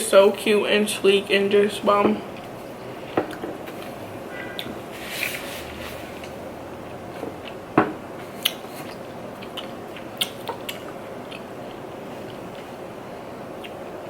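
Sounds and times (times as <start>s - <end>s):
soft chewing: 2.2s - 14.0s.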